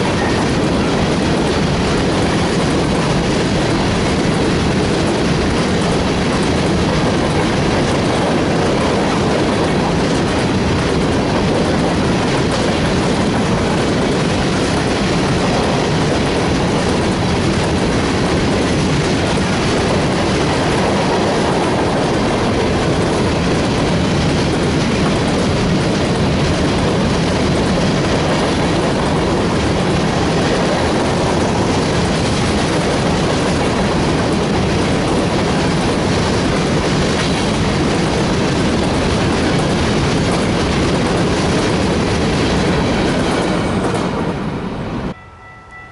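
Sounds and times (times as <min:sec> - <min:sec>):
wheels clicking over rail joints: 0:00.0 - 0:44.3
freight train rolling past: 0:00.0 - 0:45.9.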